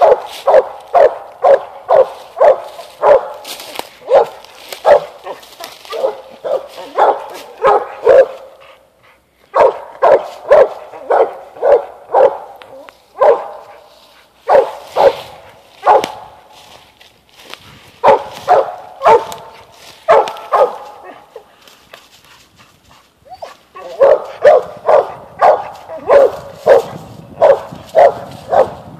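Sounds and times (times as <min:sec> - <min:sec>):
dog barking: 0:00.0 - 0:08.6, 0:09.5 - 0:16.4, 0:18.0 - 0:21.5, 0:23.4 - 0:28.9.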